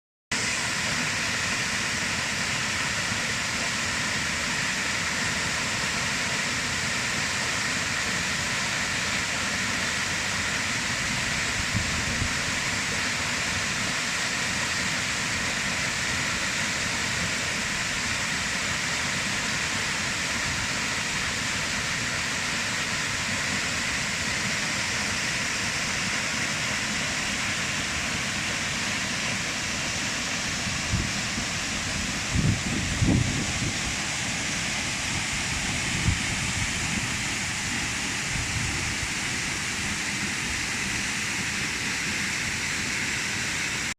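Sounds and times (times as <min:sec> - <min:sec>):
waterfall roaring: 0:00.4 - 0:43.9.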